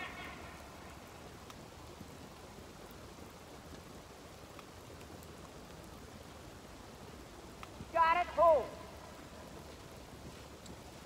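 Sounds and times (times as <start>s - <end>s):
light rain hiss: 0.0s - 11.0s
raindrop ticks: 0.0s - 11.0s.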